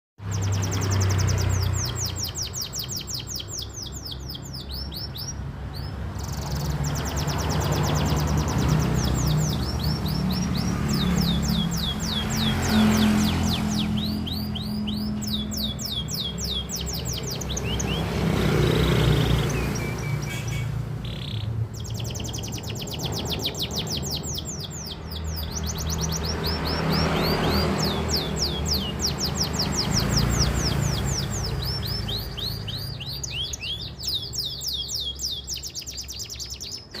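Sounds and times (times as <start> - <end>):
canary singing: 0.2 - 37.0.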